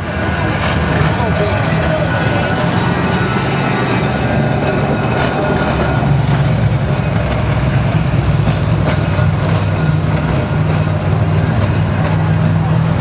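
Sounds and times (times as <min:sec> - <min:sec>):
tram running: 0:00.0 - 0:13.0.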